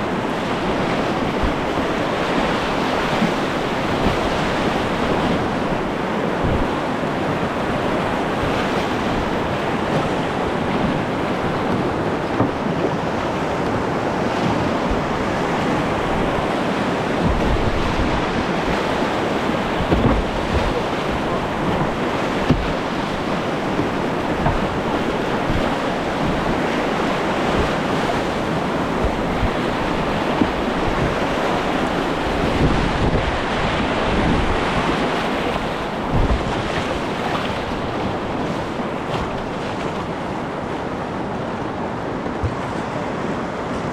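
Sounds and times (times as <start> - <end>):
river water rushing: 0.0 - 43.9
wind rumbling on microphone: 0.0 - 43.9.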